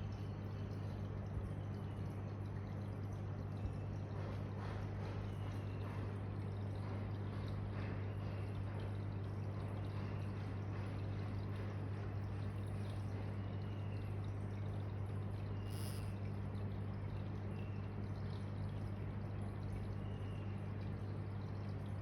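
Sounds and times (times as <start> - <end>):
aquarium pump humming: 0.0 - 22.0
water trickling: 0.0 - 22.0.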